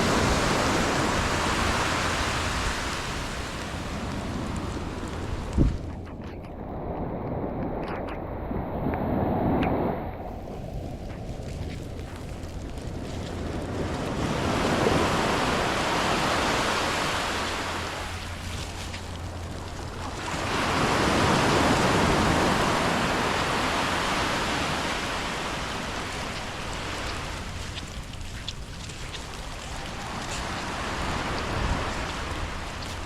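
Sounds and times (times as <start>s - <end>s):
waves breaking on a beach: 0.0s - 33.0s.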